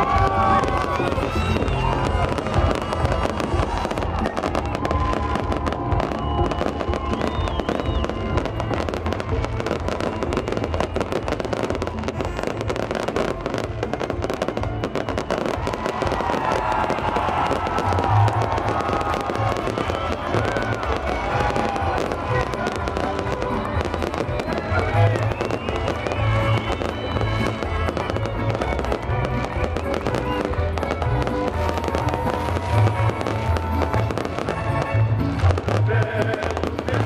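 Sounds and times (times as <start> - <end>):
fireworks crackling and banging: 0.0 - 37.0
music playing: 0.0 - 37.0.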